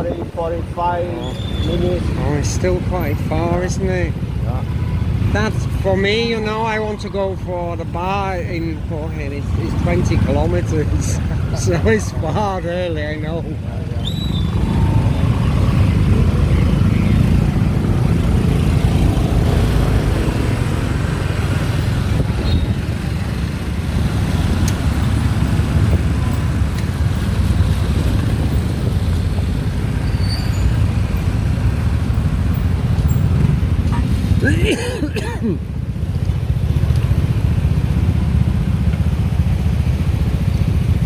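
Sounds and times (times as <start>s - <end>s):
wind and road noise: 0.0s - 41.0s.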